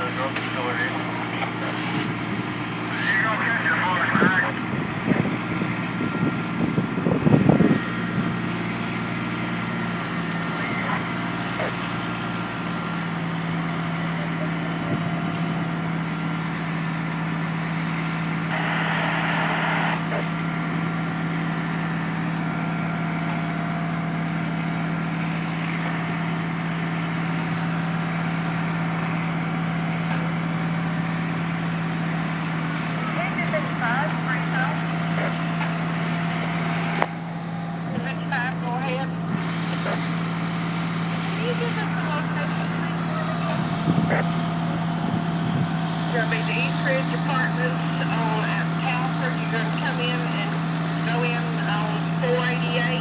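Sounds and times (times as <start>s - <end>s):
fire truck engine running: 0.0s - 53.0s.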